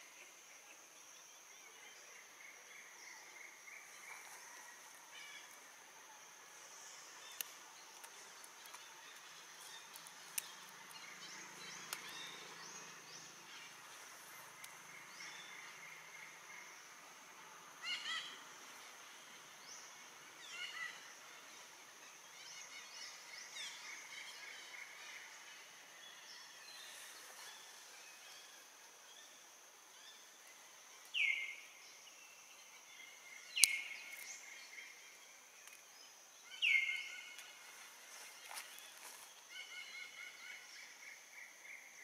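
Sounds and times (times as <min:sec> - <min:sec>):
steady high insect hum: 0:00.0 - 0:42.0.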